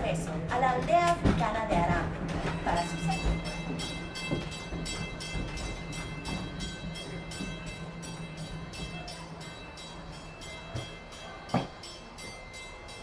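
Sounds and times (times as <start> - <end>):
train rhythmic clatter: 0.0 - 13.0.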